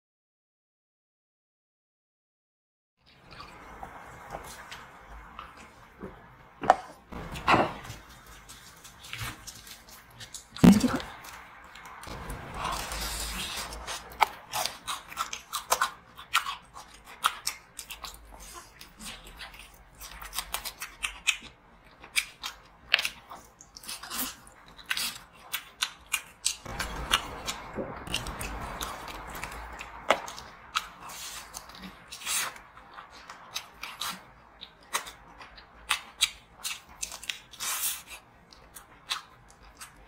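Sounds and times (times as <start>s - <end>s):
crunching fried chicken: 7.4s - 40.0s.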